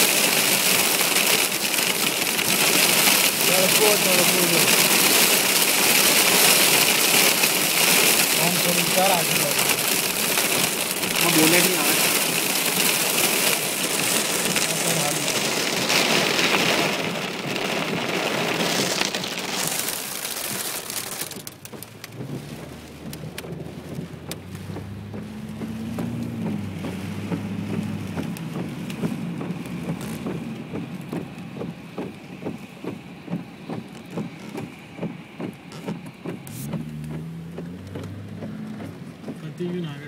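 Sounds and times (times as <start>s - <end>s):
car engine running: 0.0s - 40.0s
hail and rain drumming on a car: 0.0s - 40.0s.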